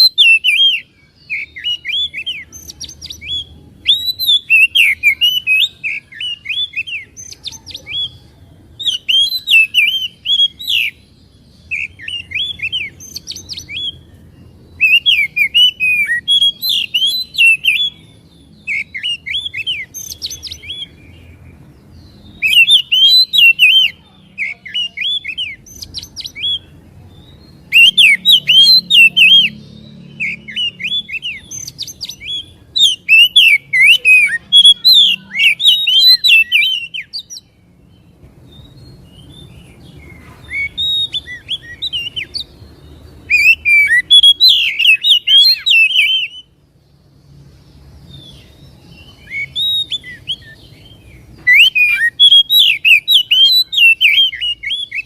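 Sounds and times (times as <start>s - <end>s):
bird singing whistled phrases: 0.0s - 11.0s, 11.6s - 14.2s, 14.8s - 21.2s, 22.0s - 37.5s, 38.5s - 46.6s, 48.1s - 55.0s.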